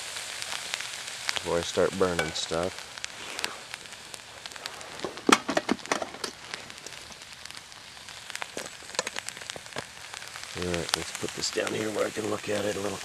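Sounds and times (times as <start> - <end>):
potatoes sizzling and crackling: 0.0 - 13.0.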